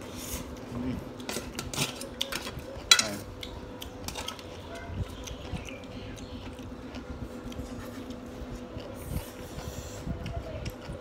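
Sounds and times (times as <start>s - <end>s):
chewing noodles: 0.5s - 11.0s.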